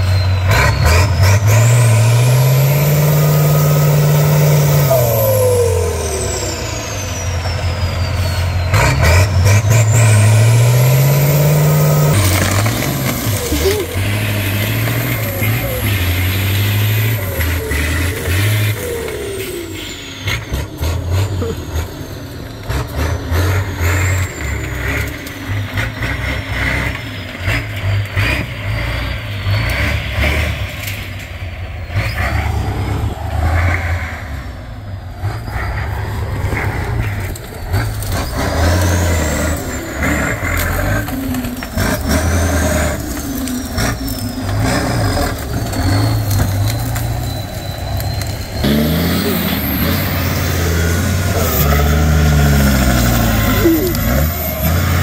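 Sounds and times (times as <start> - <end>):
truck diesel engine revving: 0.0 - 55.0.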